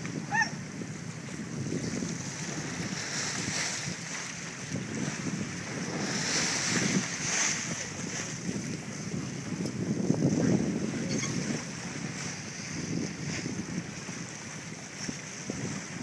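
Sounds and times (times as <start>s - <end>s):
waves washing against boat: 0.0s - 16.0s
wind buffeting microphone: 0.0s - 16.0s.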